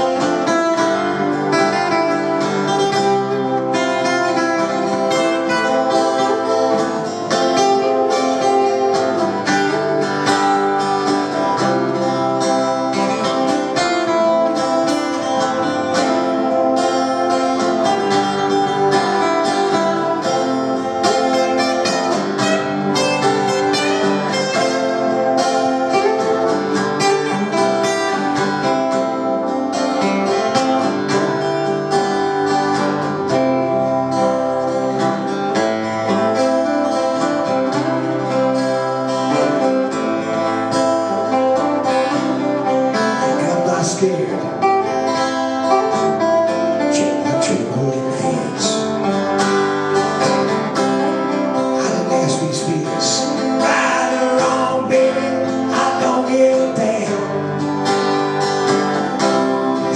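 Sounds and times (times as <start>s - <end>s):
acoustic guitars playing: 0.0s - 59.9s.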